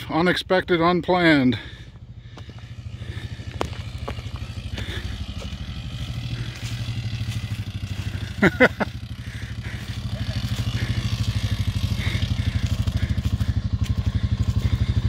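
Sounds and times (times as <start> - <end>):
atv engine putter: 0.0 - 15.0.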